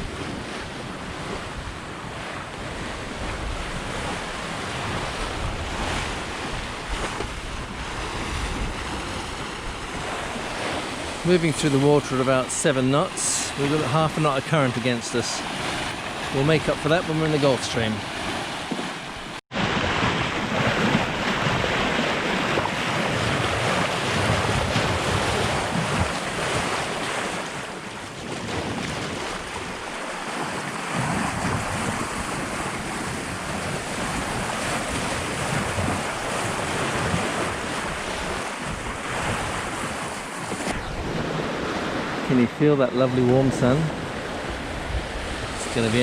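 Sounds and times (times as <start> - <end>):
wind buffeting microphone: 0.0 - 17.2, 17.8 - 46.0
water rushing along boat hull: 0.0 - 46.0.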